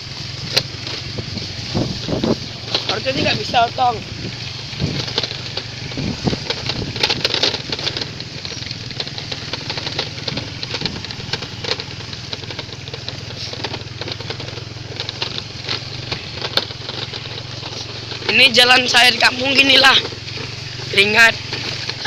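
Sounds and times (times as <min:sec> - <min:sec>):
motorcycle engine running: 0:00.0 - 0:22.0
short clicks and rattles: 0:00.5 - 0:22.0.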